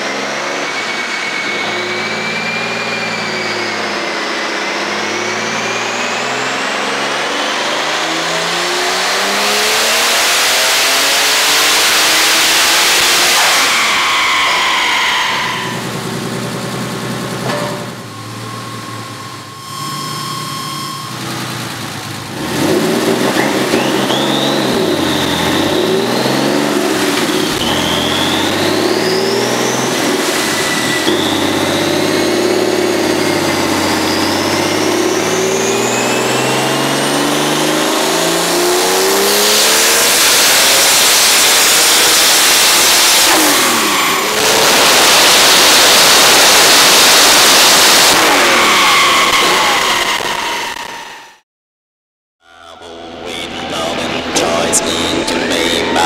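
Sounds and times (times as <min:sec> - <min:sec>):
car engine revving on dyno: 0:00.0 - 0:51.4
high turbo whine: 0:00.0 - 0:51.4, 0:52.6 - 0:56.0.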